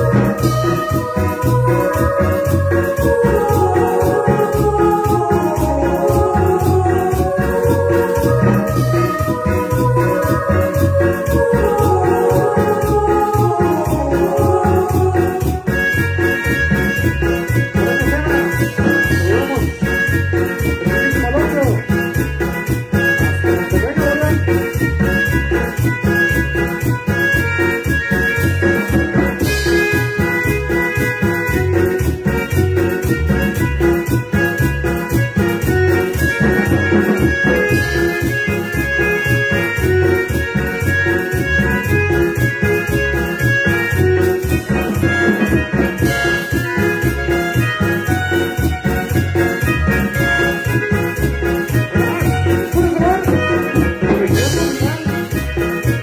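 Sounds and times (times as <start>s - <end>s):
drum kit beat: 0.0s - 56.0s
live band playing: 0.0s - 56.0s
low bass notes: 0.0s - 56.0s
organ-like keyboard chords: 0.0s - 56.0s.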